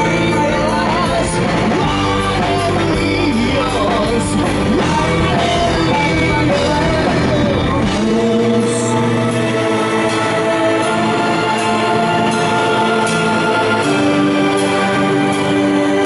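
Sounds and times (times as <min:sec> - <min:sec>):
lead vocalist singing: 0:00.0 - 0:16.0
live rock band playing: 0:00.0 - 0:16.0.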